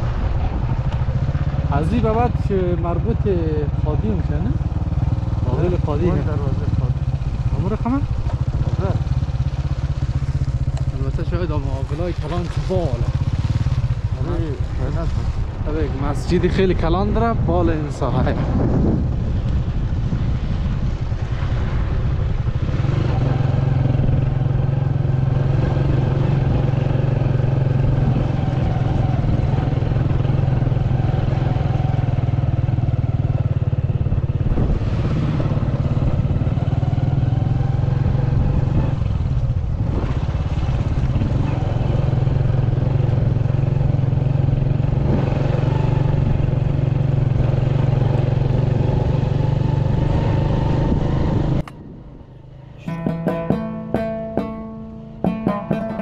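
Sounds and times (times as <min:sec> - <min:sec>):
vehicle engine running: 0:00.0 - 0:20.0, 0:21.0 - 0:56.0.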